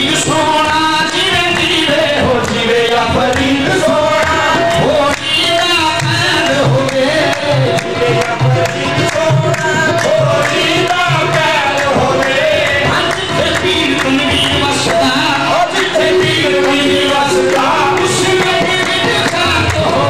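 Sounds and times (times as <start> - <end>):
group singing: 0.0 - 20.0
tabla beat: 0.0 - 20.0.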